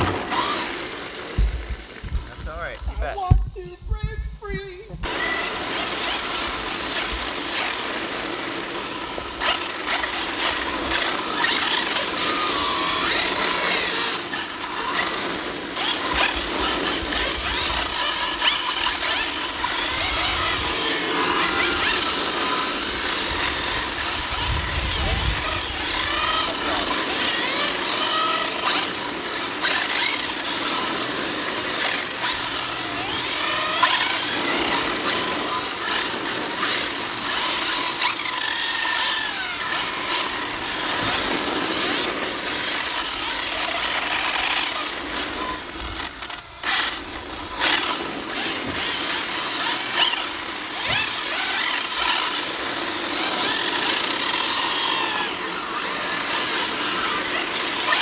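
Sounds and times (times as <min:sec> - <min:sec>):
electric motors whining: 0:00.0 - 0:58.0.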